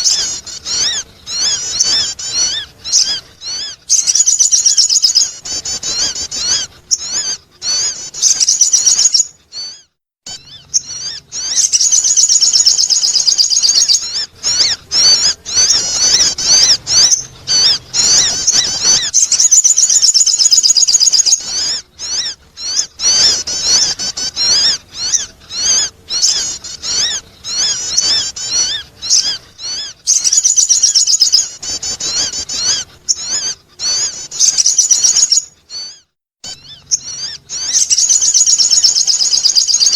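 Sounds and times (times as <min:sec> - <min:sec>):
bird warbling chirps: 0:00.0 - 0:39.9.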